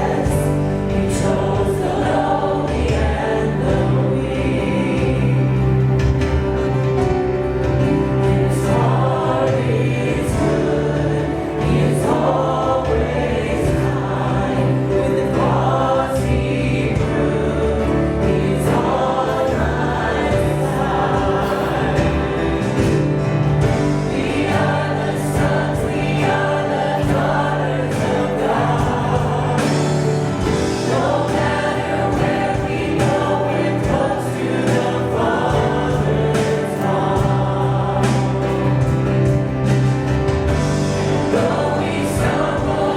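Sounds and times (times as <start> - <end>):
band accompaniment: 0.0 - 42.9
choir singing gospel song: 0.0 - 42.9.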